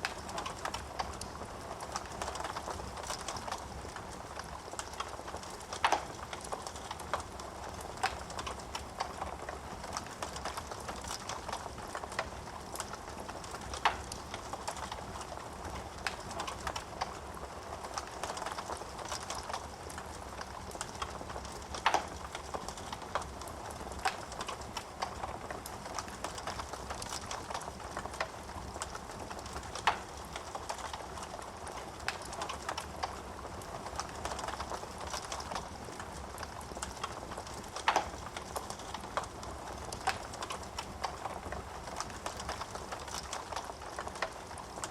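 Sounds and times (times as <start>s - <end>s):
fire popping: 0.0s - 44.9s
wood fire crackling: 0.0s - 44.9s.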